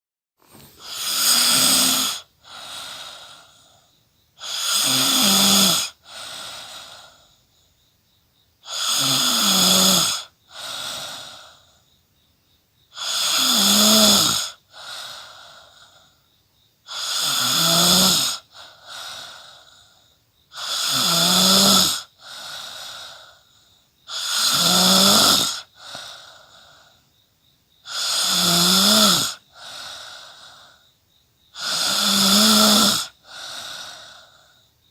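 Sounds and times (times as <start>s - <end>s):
quiet breath: 0.4s - 21.0s, 21.8s - 24.5s, 25.4s - 28.3s, 28.9s - 34.9s
person snoring: 0.5s - 7.3s, 8.6s - 11.8s, 12.9s - 16.2s, 16.8s - 27.0s, 27.8s - 30.8s, 31.5s - 34.6s.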